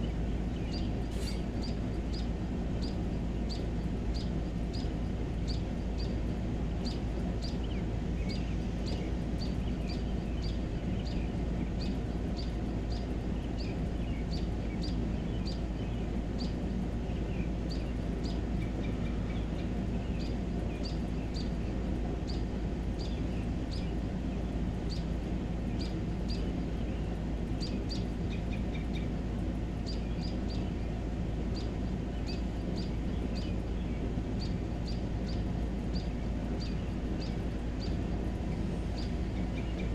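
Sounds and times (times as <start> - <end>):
low rumbling background noise: 0.0 - 39.9.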